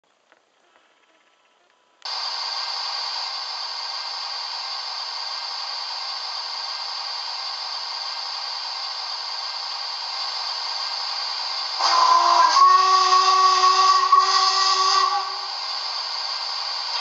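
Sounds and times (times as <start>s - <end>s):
steam hiss from small speaker: 2.1s - 17.0s.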